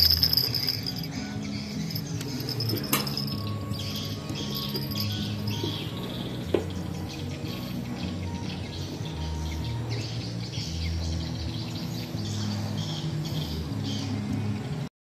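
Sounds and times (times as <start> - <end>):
birds chirping: 0.0 - 14.9.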